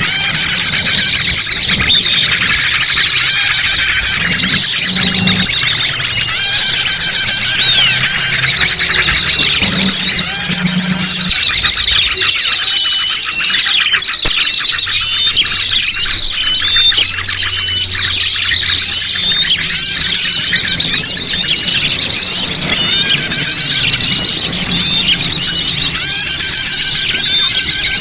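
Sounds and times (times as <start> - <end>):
small birds chirping and whistling: 0.0 - 28.0.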